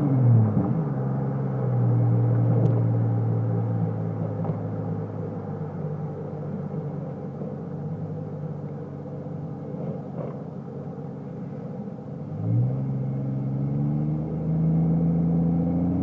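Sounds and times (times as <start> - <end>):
car exhaust idling rumble: 0.0 - 13.7.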